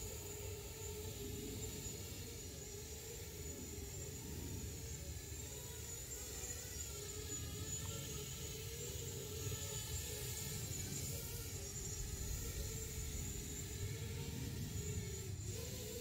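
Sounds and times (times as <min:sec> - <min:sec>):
drone motors buzzing in flight: 0:00.0 - 0:16.0.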